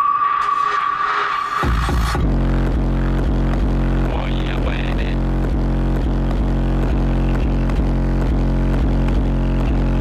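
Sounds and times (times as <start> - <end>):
bass-heavy music through car stereo: 0.0 - 10.0.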